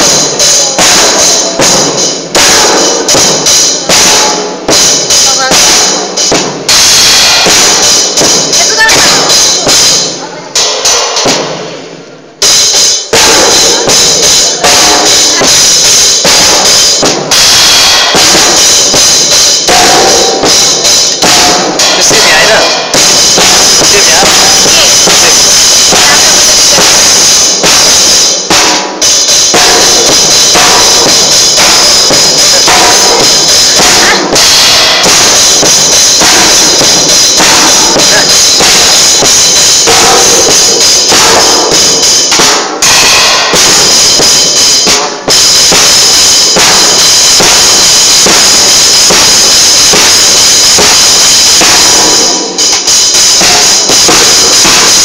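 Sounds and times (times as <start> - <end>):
cymbal wash: 0.0 - 55.0
snare drum hits: 0.0 - 55.0.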